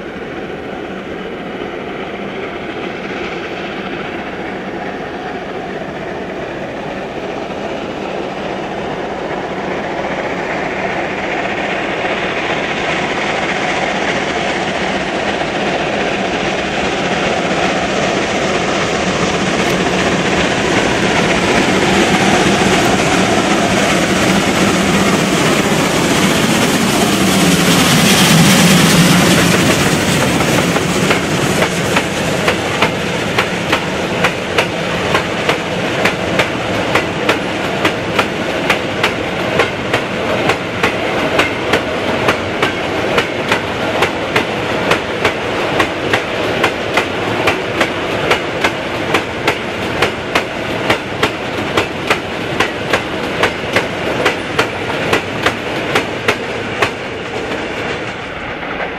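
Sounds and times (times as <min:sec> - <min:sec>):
steam locomotive hissing steam: 0:00.0 - 0:58.9
train wheels clickety-clack: 0:09.3 - 0:58.9.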